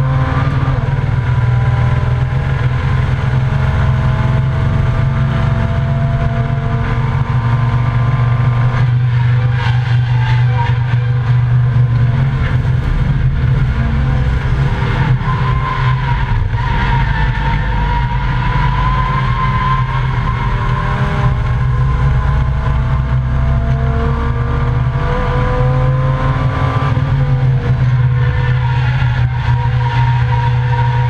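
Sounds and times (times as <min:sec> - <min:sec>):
race car engine rumbling: 0:00.0 - 0:31.0.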